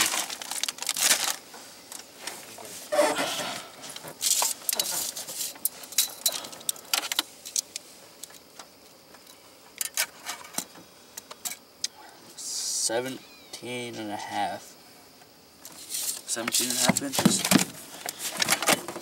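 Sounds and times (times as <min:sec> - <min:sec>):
rustle: 0:00.0 - 0:19.0.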